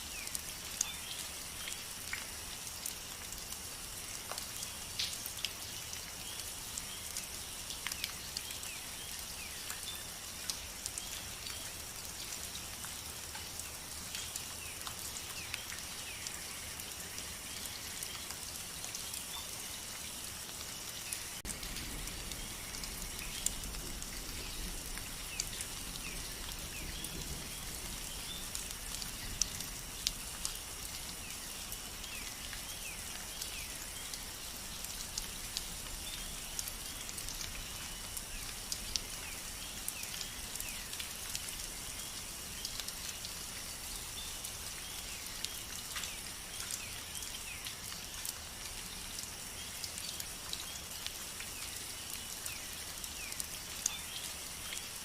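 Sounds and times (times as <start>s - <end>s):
raindrops ticking on a surface: 0.0s - 55.0s
steady rainfall: 0.0s - 55.0s.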